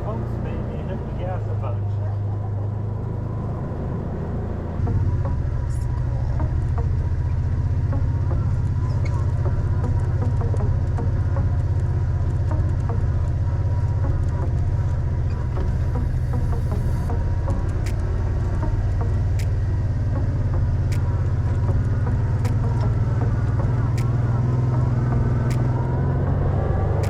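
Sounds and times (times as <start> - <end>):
utility vehicle engine droning: 0.0 - 27.0.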